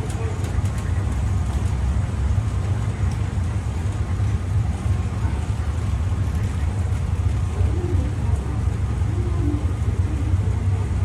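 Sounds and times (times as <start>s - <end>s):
moving walkway rumble: 0.0s - 11.0s.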